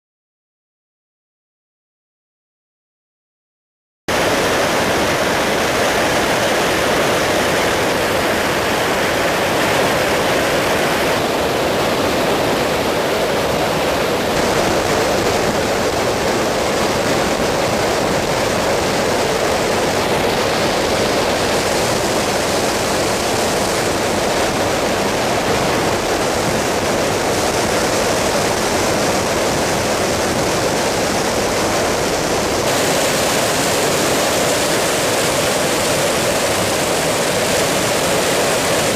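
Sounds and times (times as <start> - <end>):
aircraft in flight: 4.1 - 38.9.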